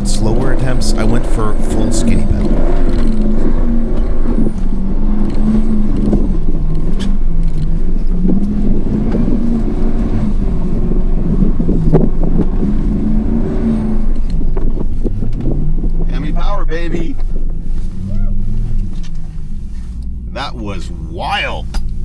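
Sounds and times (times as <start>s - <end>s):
engine at full throttle: 0.0s - 22.0s.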